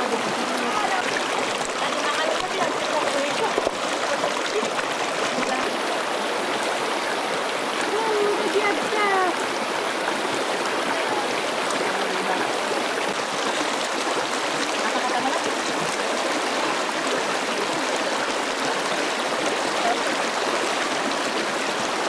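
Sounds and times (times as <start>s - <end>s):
river water rushing over stones: 0.0s - 22.0s.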